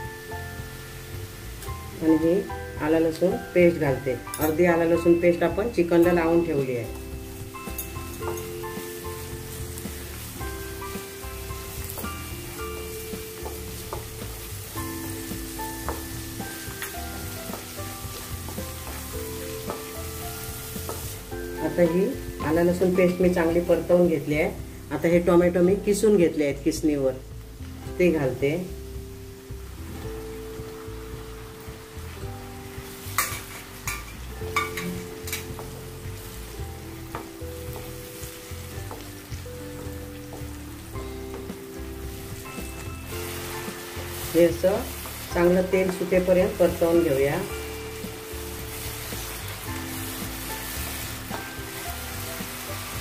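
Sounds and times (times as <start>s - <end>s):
paste and onions sizzling in oil: 0.0s - 53.0s.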